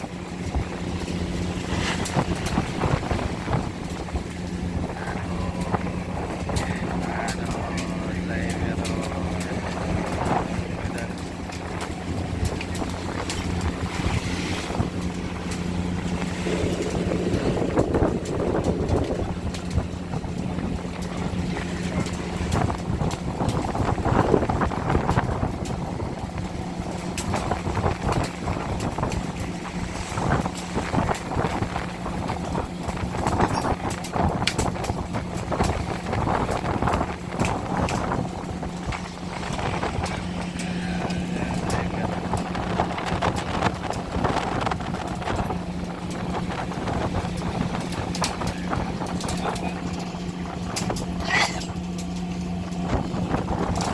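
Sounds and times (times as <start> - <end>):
boat engine humming: 0.0 - 53.9
wind on microphone: 0.0 - 53.9.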